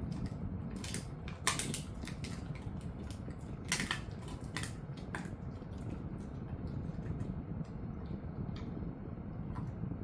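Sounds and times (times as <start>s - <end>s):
dog gnawing bone: 0.0s - 9.7s.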